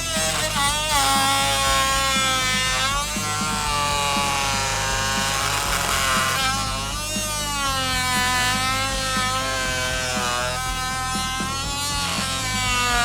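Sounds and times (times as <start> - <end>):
background music: 0.0 - 13.0
oscillating multi-tool buzzing: 0.0 - 13.0.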